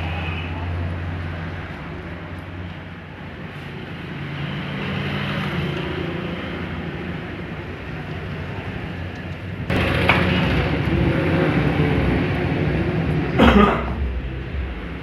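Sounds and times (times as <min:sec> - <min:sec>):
engine running: 0:00.6 - 0:15.0.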